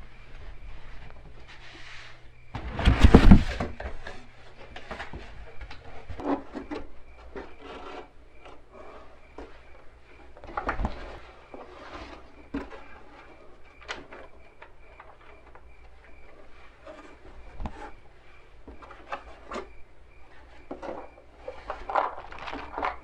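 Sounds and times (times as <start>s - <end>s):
objects rustling and rubbing: 0.0s - 23.0s.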